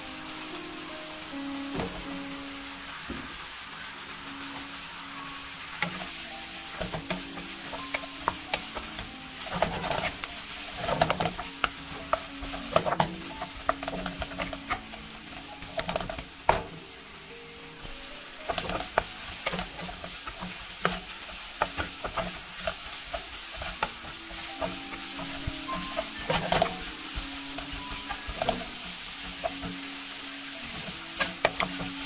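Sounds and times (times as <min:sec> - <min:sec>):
vegetables sizzling in oil: 0:00.0 - 0:32.0
spatula scraping and tapping pan: 0:01.7 - 0:02.2, 0:05.6 - 0:16.8, 0:17.7 - 0:32.0.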